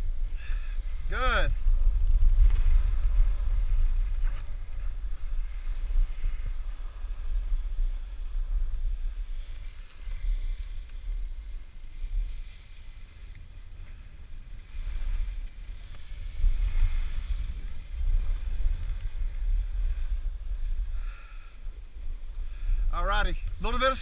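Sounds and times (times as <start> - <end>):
wind buffeting microphone: 0.0 - 24.0
skis sliding over snow: 2.2 - 24.0.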